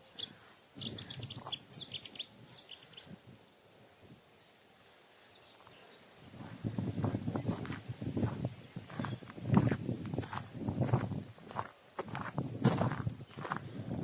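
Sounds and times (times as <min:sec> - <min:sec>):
bird chattering song: 0:00.0 - 0:03.5, 0:05.3 - 0:14.0.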